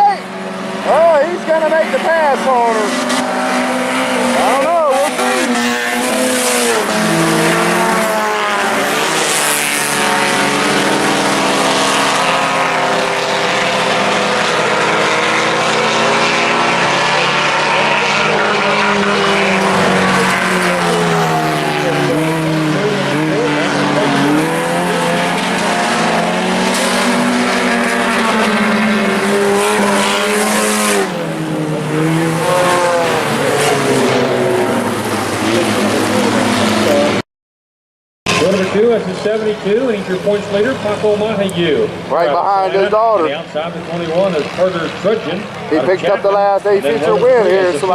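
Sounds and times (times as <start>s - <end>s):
race car engines revving: 0.0s - 37.2s, 38.3s - 47.9s.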